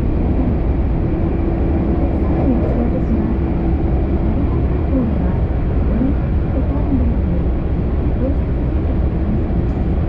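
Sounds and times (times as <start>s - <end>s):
train cabin rumble: 0.0s - 10.0s.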